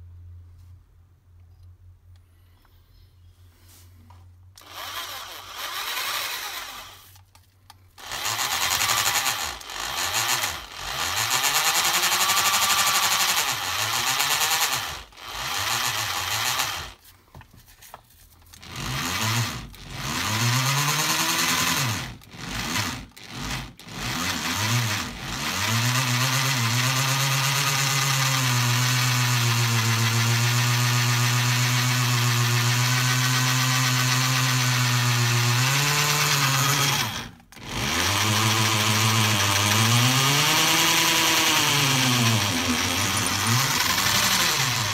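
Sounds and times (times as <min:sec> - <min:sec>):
electric drill boring into marble: 0:04.6 - 0:07.2, 0:08.0 - 0:17.0, 0:18.6 - 0:44.9.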